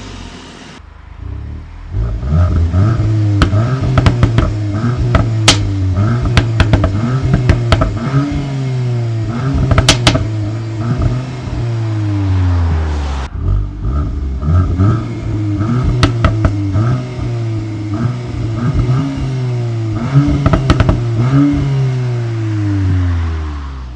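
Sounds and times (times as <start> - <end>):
sharp exhaust cracks: 0.0 - 21.8
car engine revving: 0.0 - 23.9.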